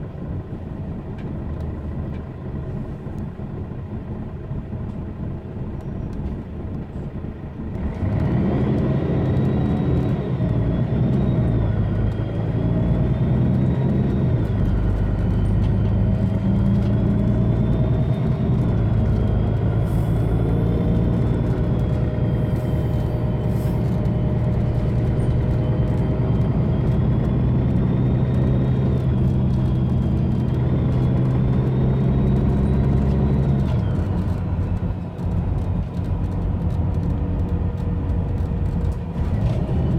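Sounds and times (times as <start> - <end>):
bus diesel engine pulling away: 0.0 - 39.9.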